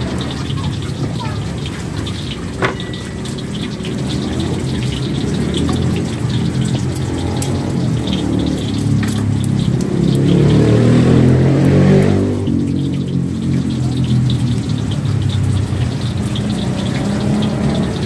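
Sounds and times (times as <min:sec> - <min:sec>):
traffic noise: 0:00.0 - 0:18.0
vehicle engine rumbling past: 0:03.2 - 0:18.0.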